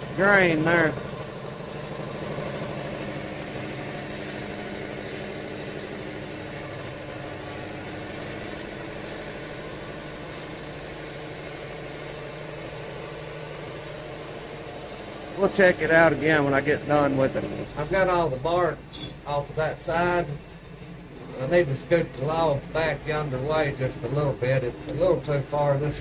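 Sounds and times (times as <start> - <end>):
sawmill engine idling: 0.0 - 26.0.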